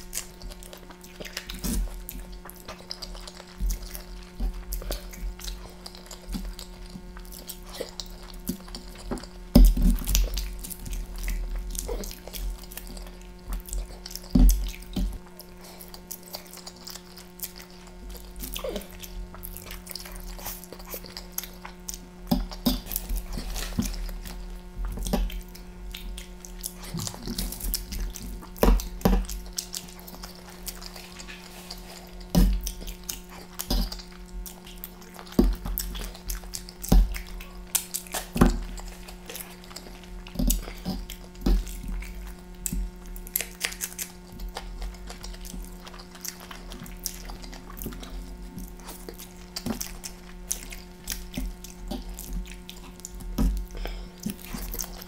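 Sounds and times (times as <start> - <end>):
chewing and slurping noodles: 0.0 - 55.0.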